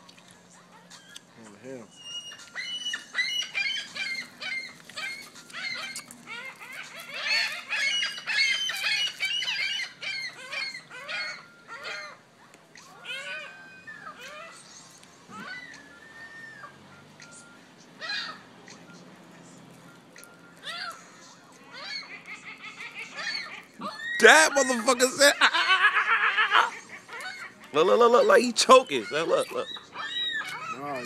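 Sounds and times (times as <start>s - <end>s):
birds squawking: 0.5s - 31.0s.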